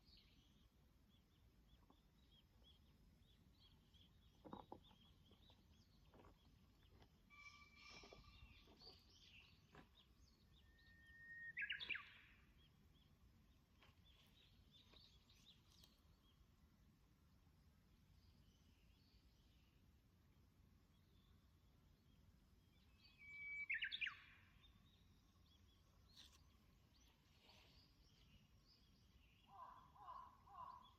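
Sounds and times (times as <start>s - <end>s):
faint birdsong chirps and whistles: 0.0s - 16.5s, 17.9s - 20.0s, 20.7s - 30.9s.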